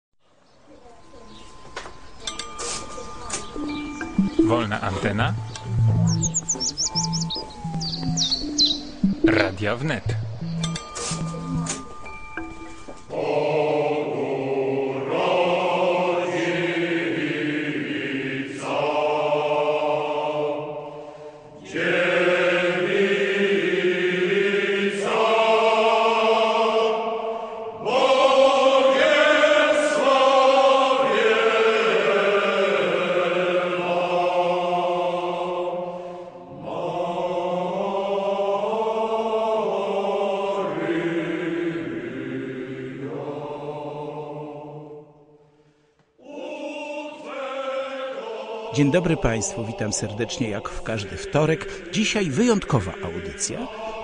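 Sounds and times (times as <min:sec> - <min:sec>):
choral chanting: 0:02.1 - 0:45.5, 0:46.2 - 0:54.0.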